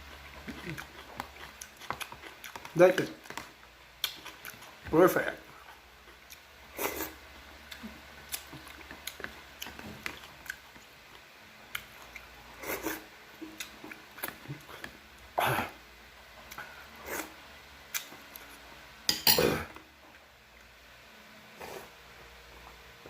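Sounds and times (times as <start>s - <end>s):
mouth noises of eating: 0.0s - 18.7s, 21.5s - 23.0s.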